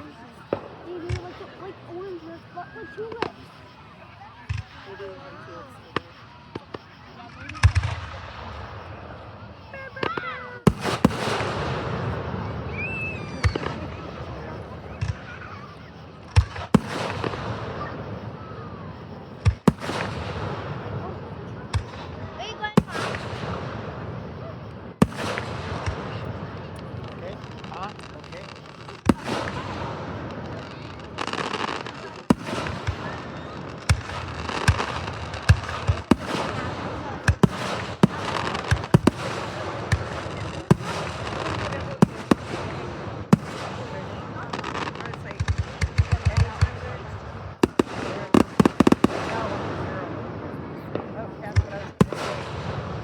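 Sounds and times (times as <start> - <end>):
fireworks bursting with bangs: 0.0 - 53.0.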